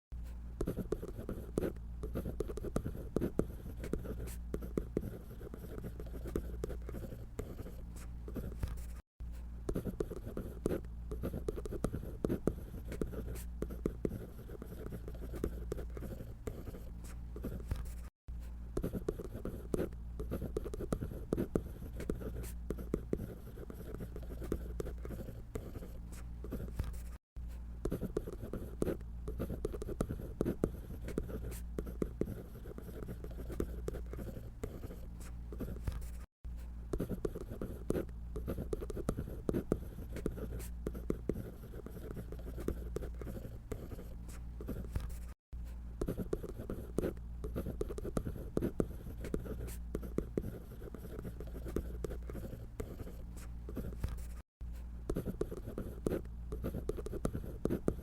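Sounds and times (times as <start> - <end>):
drawing tool scratching paper: 0.6 - 9.0, 9.7 - 18.1, 18.8 - 27.2, 27.8 - 36.3, 37.0 - 45.4, 46.0 - 54.4, 55.1 - 58.0.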